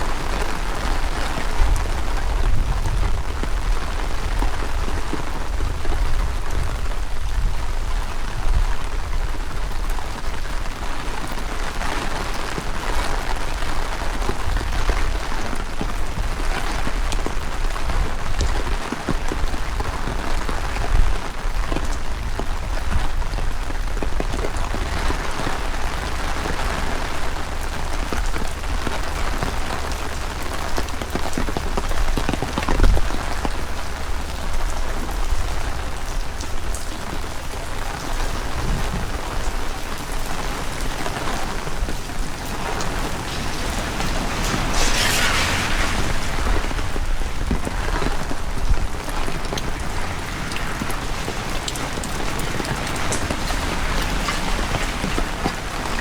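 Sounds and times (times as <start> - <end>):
heavy rain falling: 0.0 - 56.0
wind rumbling on microphone: 0.0 - 56.0.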